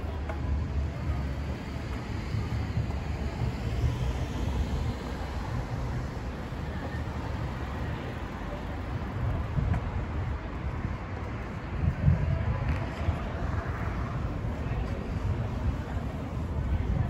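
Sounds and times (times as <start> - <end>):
city street traffic: 0.0 - 17.0
wind noise on microphone: 0.0 - 17.0.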